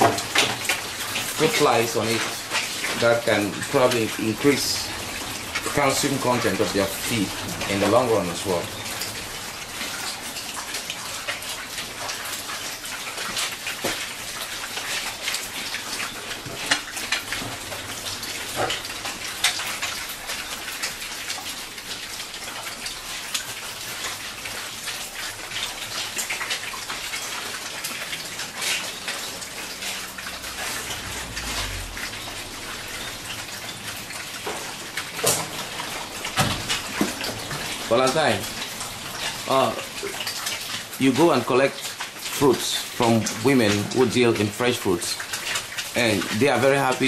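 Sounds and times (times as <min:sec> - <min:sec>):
pigs chomping and smacking: 0:00.0 - 0:47.0.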